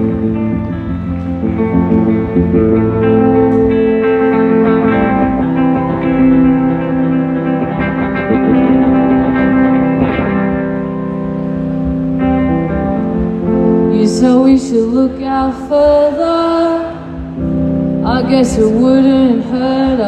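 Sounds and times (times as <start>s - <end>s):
rock band on electric guitars: 0.0s - 20.0s.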